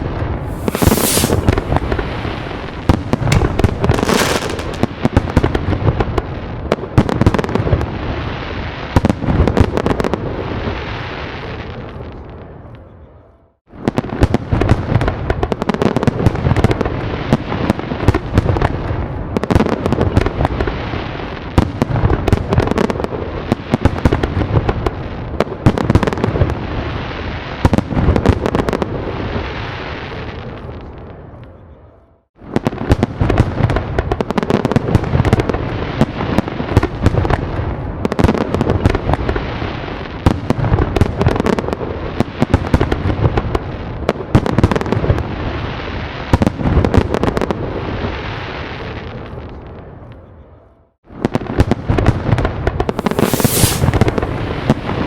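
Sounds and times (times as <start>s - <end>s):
fireworks bangs and crackles: 0.0s - 12.8s, 13.7s - 31.4s, 32.4s - 50.2s, 51.1s - 55.0s.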